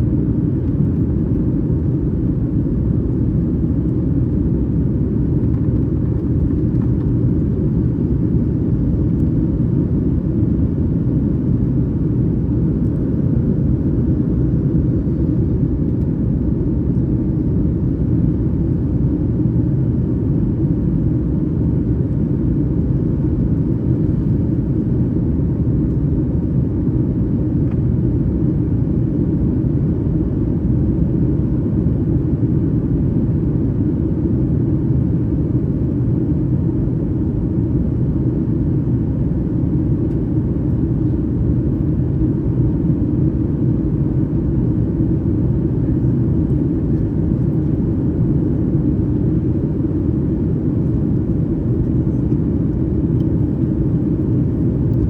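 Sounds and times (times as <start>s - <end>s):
jet engine rumble inside cabin: 0.0s - 55.0s.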